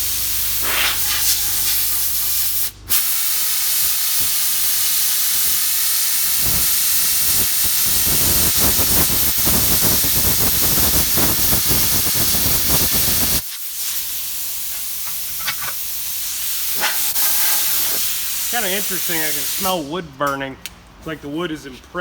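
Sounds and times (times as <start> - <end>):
plasma cutter hissing and crackling: 0.0 - 19.9.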